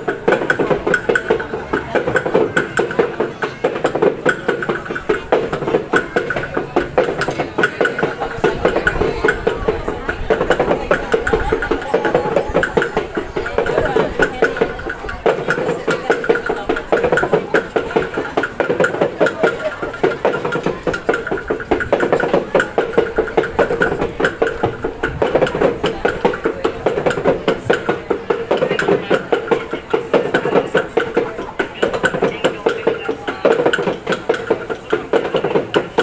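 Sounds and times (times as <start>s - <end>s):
drum beating quick pulse: 0.0s - 36.0s.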